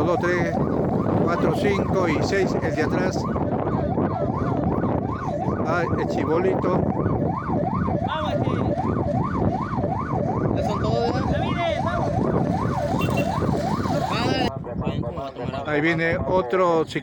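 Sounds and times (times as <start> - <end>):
electronic yelp siren: 0.0 - 14.5
motorcycle engines rumbling: 0.0 - 17.0.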